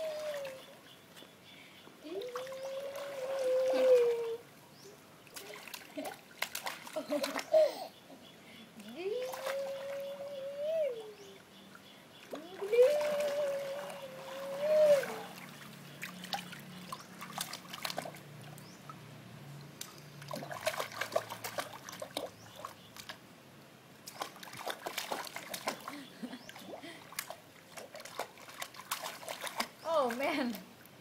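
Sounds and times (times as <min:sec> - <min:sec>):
baby splashing pool water: 0:00.0 - 0:00.8, 0:02.1 - 0:04.5, 0:05.2 - 0:08.1, 0:08.7 - 0:23.2, 0:24.0 - 0:30.8.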